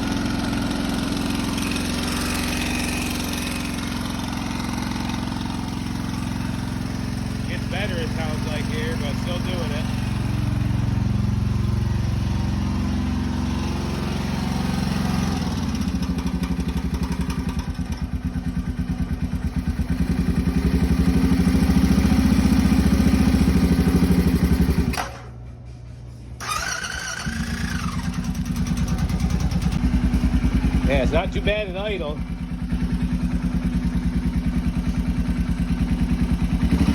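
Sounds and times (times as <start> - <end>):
mechanical engine noise: 0.0 - 36.9
motorcycle engine running: 0.0 - 36.9.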